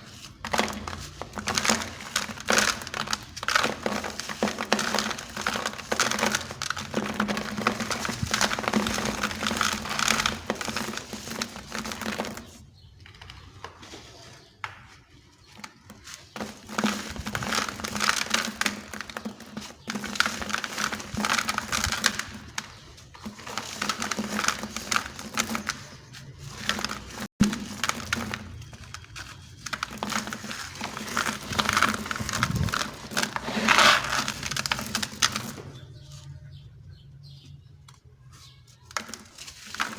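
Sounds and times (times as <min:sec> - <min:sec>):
cement blocks crunching: 0:00.0 - 0:14.5, 0:15.4 - 0:36.1.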